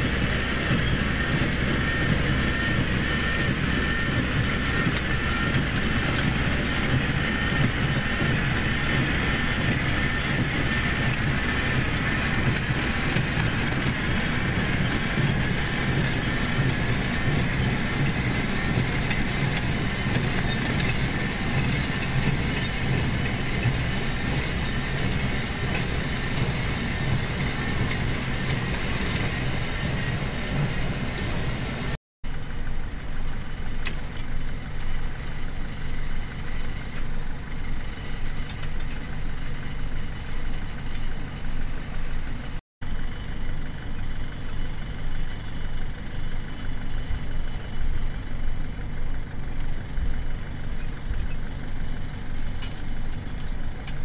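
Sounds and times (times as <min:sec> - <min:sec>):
hay baler engine humming: 0:00.0 - 0:54.0.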